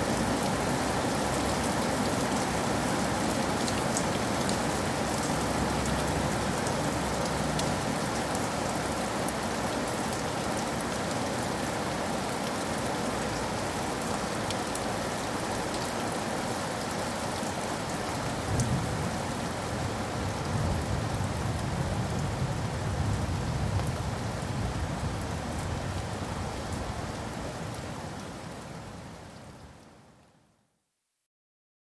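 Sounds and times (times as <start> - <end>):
rain on hard surfaces: 0.0 - 30.7.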